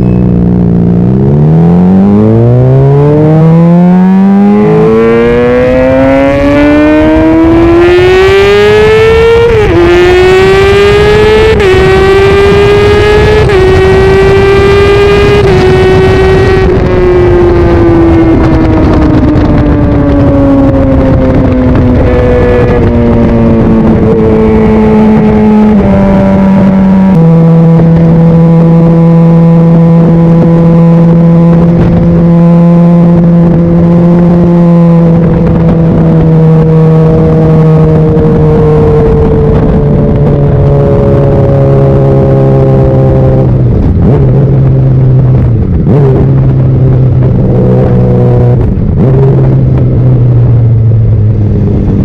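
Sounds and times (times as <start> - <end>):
motorcycle engine revving: 0.0 - 52.0
steady rushing noise: 0.0 - 52.0.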